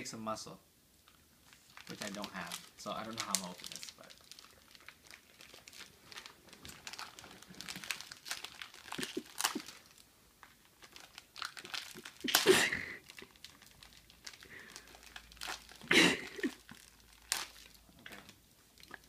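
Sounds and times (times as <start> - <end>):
plastic wrapper crinkling: 1.0 - 19.0.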